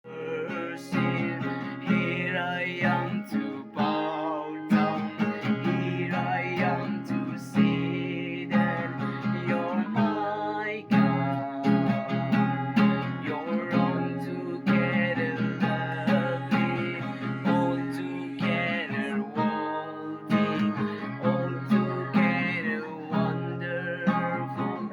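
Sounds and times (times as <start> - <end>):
person singing: 0.0 - 24.9
acoustic guitar strumming: 0.1 - 24.9.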